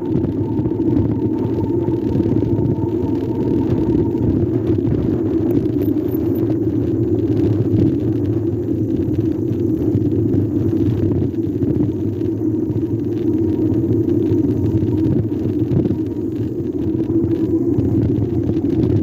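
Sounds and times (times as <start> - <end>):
road and wind noise while riding: 0.0 - 19.0.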